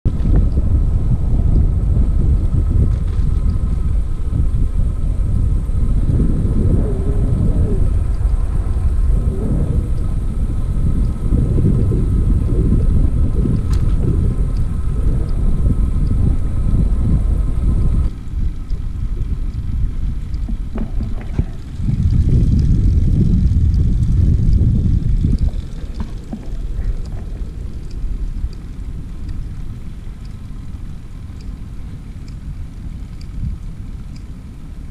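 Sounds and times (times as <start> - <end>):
wind buffeting microphone: 0.0 - 34.9
faint ticks: 0.1 - 1.0, 2.3 - 4.1, 4.9 - 34.9
tyre noise on asphalt: 0.1 - 31.0.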